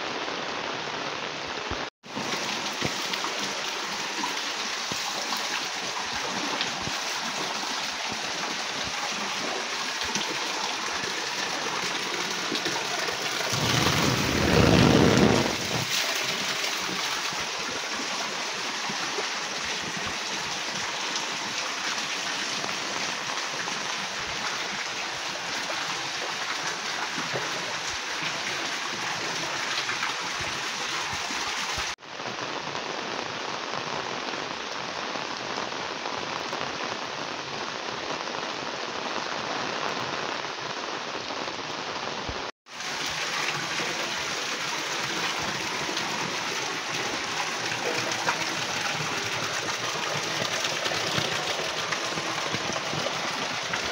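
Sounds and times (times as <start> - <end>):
heavy rain on water: 0.0 - 53.9.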